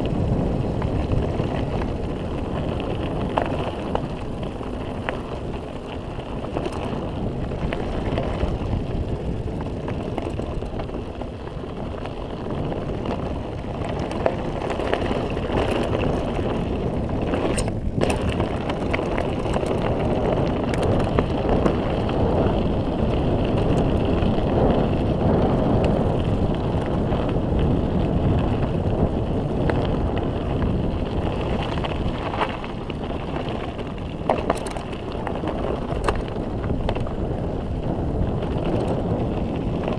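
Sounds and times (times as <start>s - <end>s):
bike rattling: 0.0s - 39.9s
tyres on loose ground: 0.0s - 39.9s
wind rushing over microphone: 0.0s - 39.9s.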